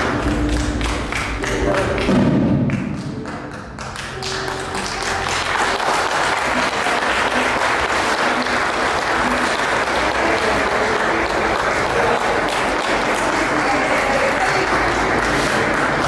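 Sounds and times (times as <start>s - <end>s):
crowd clapping: 0.0s - 16.0s.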